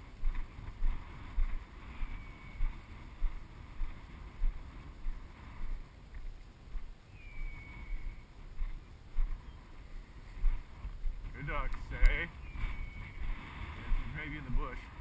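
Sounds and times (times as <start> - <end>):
footsteps on ground: 0.0 - 15.0
wind on microphone: 0.0 - 15.0.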